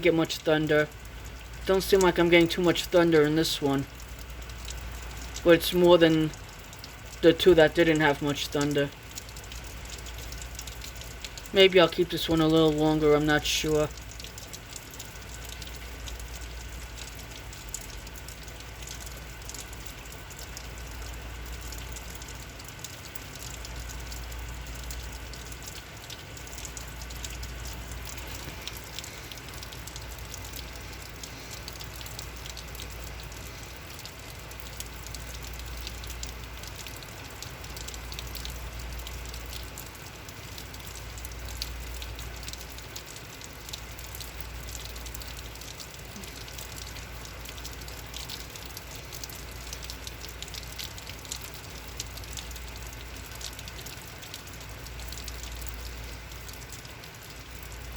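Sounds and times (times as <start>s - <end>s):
heavy rain: 0.0s - 57.9s
drops ticking on hard surfaces: 0.2s - 57.9s.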